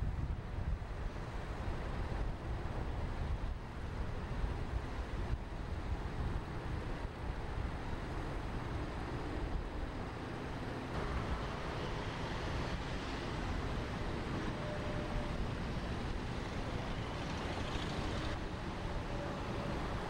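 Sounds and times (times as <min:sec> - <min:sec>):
road traffic hiss: 0:00.0 - 0:20.0.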